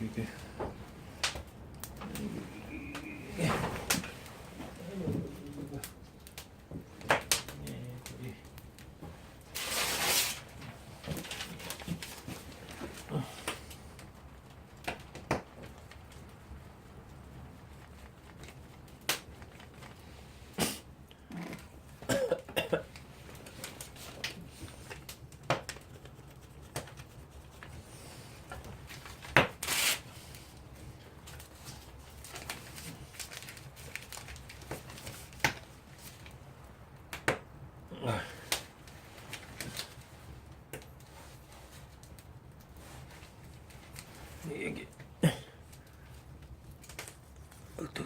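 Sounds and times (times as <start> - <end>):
twigs crackling in campfire: 0.0 - 22.0, 22.8 - 48.0.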